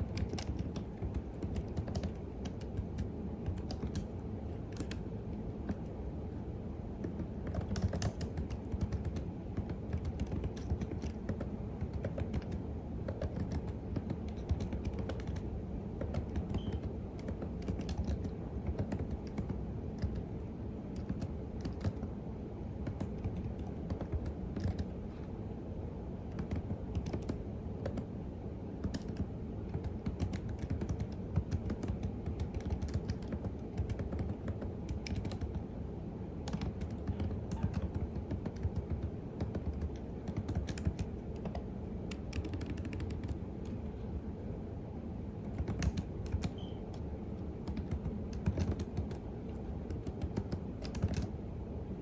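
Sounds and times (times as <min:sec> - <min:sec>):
typing on computer keyboard: 0:00.0 - 0:06.0, 0:07.0 - 0:22.1, 0:22.8 - 0:25.0, 0:26.3 - 0:28.1, 0:28.8 - 0:35.7, 0:36.4 - 0:43.8, 0:45.4 - 0:51.4.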